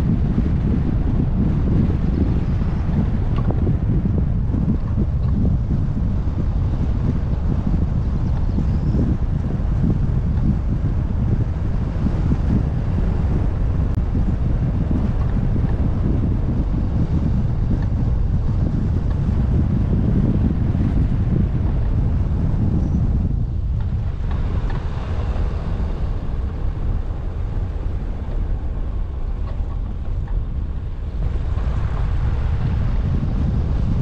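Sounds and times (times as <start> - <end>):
car road noise: 0.0 - 34.0
wind buffeting microphone: 0.0 - 34.0.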